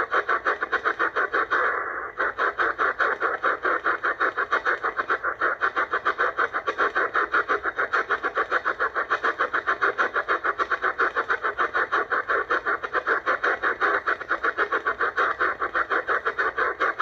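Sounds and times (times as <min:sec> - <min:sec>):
chopped radio static: 0:00.0 - 0:17.0.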